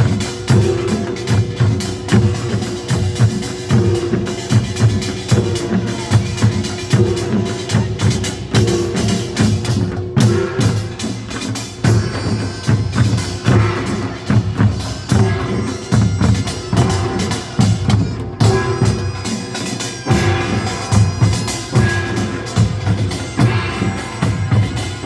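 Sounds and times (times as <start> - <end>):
drums beating driving rhythm: 0.0 - 25.0
metal gongs ringing: 0.0 - 25.0.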